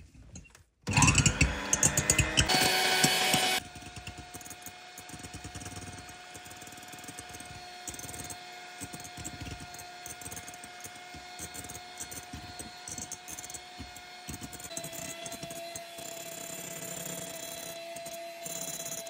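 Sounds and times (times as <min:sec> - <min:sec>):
beaters clicking in bowl: 0:00.9 - 0:19.0
electric hand mixer whining: 0:00.9 - 0:19.0.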